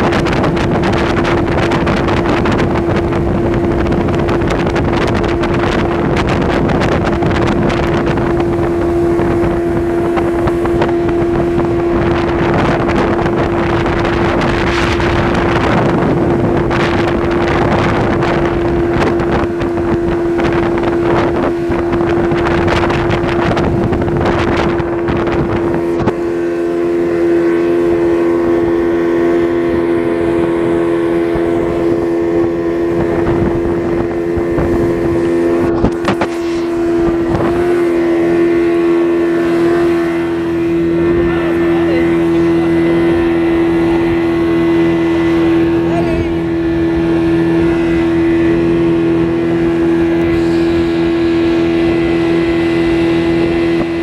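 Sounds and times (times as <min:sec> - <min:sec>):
speedboat engine drone: 0:00.0 - 0:54.0
wind buffeting microphone: 0:00.0 - 0:54.0.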